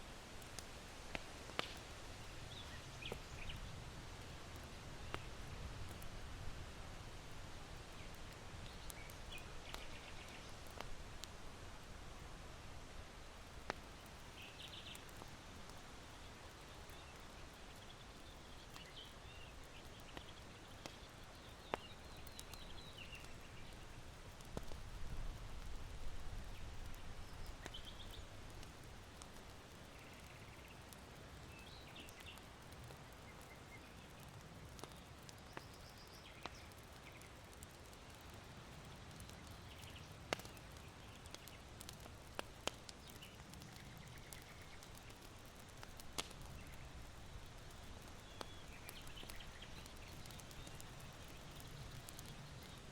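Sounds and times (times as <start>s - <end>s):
charcoal fire popping: 0.0s - 52.9s
small birds chirping: 1.5s - 6.1s, 7.8s - 11.3s, 13.4s - 52.9s.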